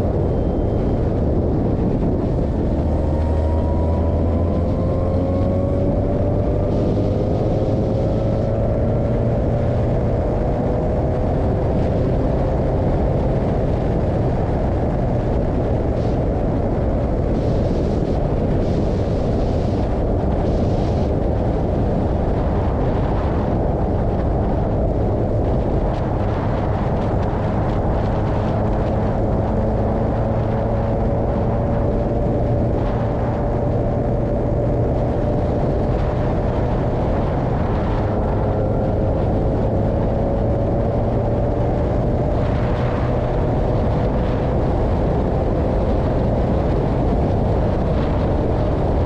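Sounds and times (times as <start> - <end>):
race car engine running hard: 0.0 - 49.0
wind and road noise: 0.0 - 49.0.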